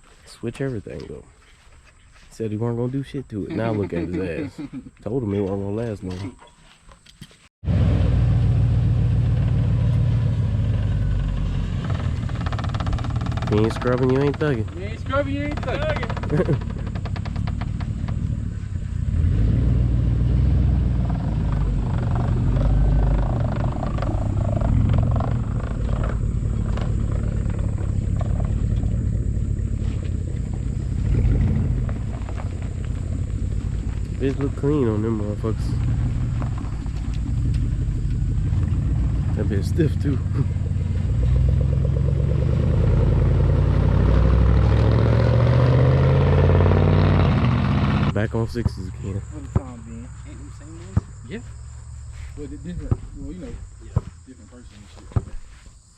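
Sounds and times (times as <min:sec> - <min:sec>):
motor vehicle rumbling: 0:07.6 - 0:55.6
truck engine running: 0:07.7 - 0:53.8.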